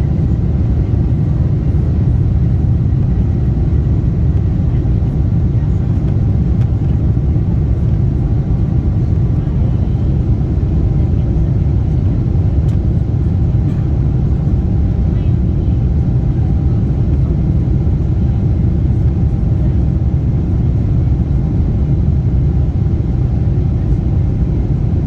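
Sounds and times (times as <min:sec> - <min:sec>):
airliner engine rumble: 0:00.0 - 0:25.0.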